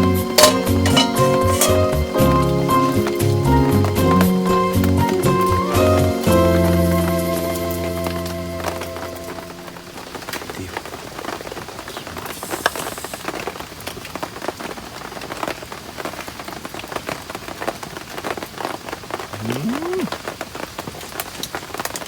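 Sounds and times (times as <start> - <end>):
heavy rain drops: 0.0 - 22.0.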